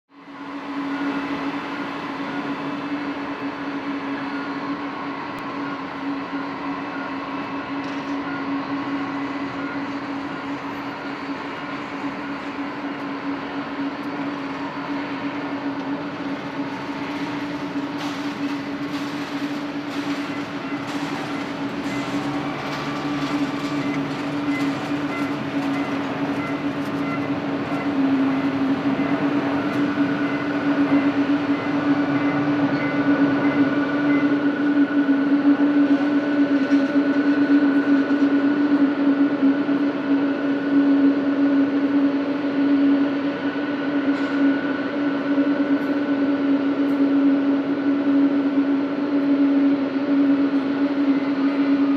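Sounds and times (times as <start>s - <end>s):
jet engines at takeoff: 0.1s - 51.9s.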